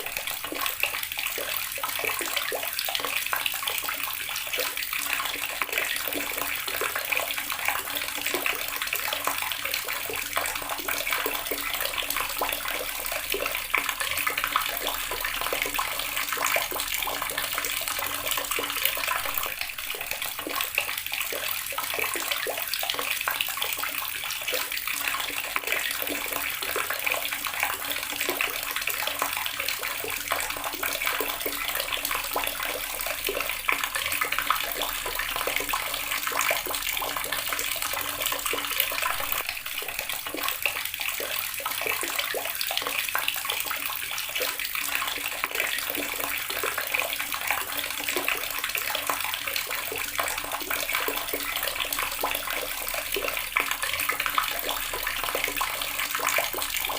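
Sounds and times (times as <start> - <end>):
tap water splashing into basin: 0.0 - 56.9.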